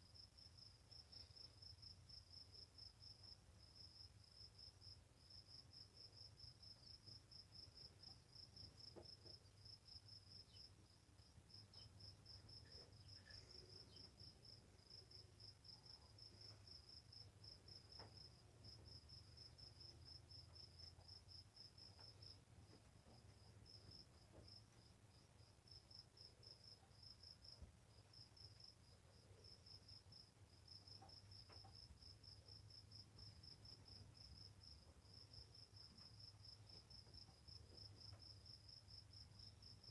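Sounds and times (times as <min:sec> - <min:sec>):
insect chirping: 0:00.1 - 0:39.9.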